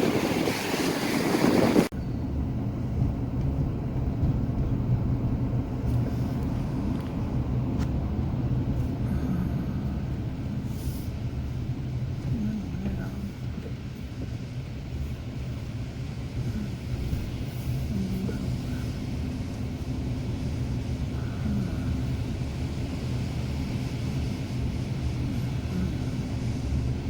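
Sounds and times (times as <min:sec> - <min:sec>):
vehicle rumbling on the move: 0:00.0 - 0:27.0.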